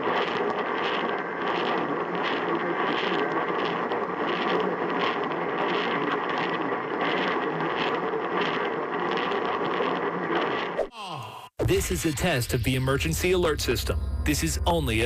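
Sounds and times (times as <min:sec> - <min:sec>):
radio static hiss: 0:00.0 - 0:10.8, 0:11.6 - 0:15.0.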